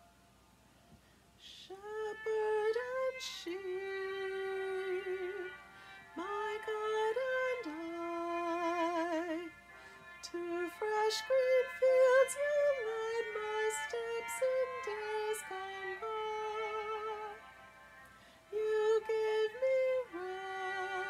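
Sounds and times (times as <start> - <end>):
faint instrumental accompaniment: 0.0 - 21.0
woman singing with vibrato: 1.4 - 17.6, 18.5 - 21.0.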